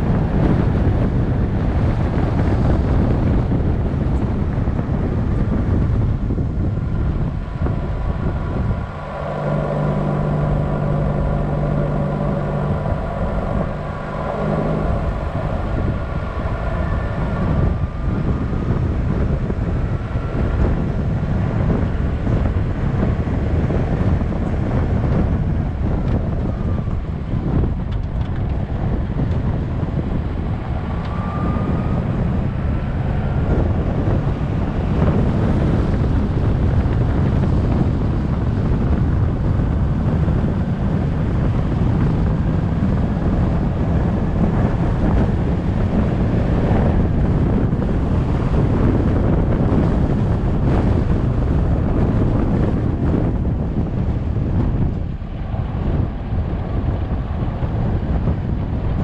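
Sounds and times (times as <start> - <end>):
vehicle engine and road noise: 0.0 - 59.0
wind rumble on microphone: 0.0 - 59.0.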